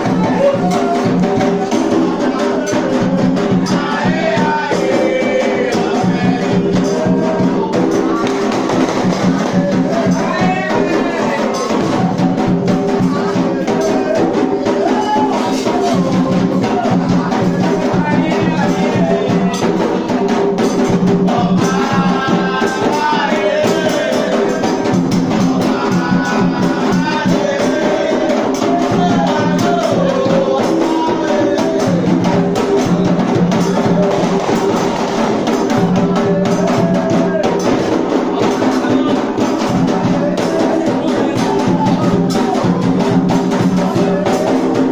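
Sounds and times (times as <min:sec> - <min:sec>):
hand drumming: 0:00.0 - 0:44.9
rattling percussion: 0:00.0 - 0:44.9
voices chanting: 0:00.0 - 0:44.9.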